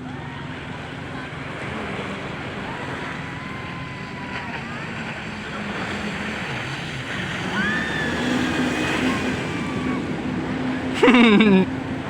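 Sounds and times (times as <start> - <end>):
jet ski engine running: 0.0 - 12.0
waves: 0.0 - 12.0
wind: 0.0 - 12.0.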